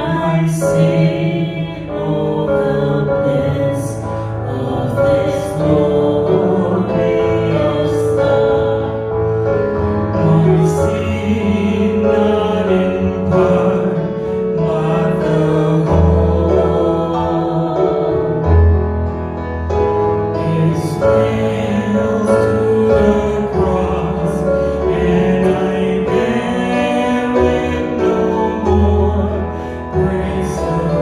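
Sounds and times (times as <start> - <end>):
slow worship music with piano: 0.0 - 31.0.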